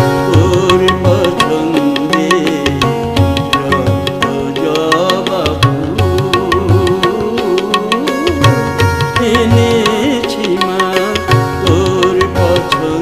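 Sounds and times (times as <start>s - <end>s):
ornamented melodic line: 0.0s - 13.0s
tabla rhythm: 0.0s - 13.0s.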